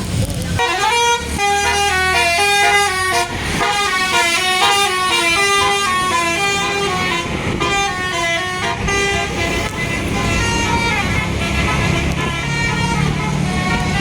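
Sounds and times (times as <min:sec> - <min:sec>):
musical air horn melody: 0:00.6 - 0:14.0.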